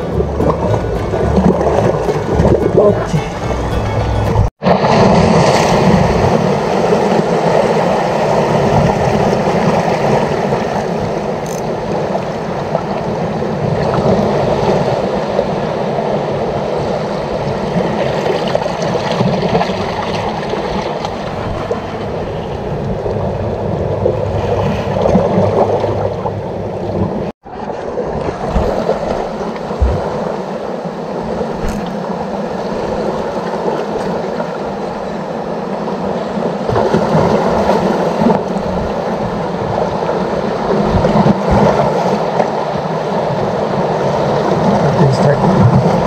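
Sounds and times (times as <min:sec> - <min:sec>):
sea waves washing on shore: 0:00.0 - 0:03.6, 0:04.3 - 0:46.0.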